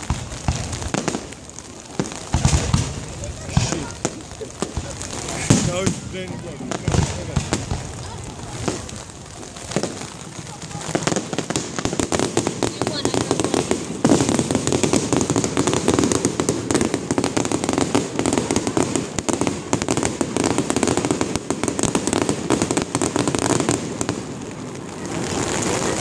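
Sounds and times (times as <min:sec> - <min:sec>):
firework bang: 0:00.0 - 0:26.0
fireworks crackling and popping: 0:00.0 - 0:26.0.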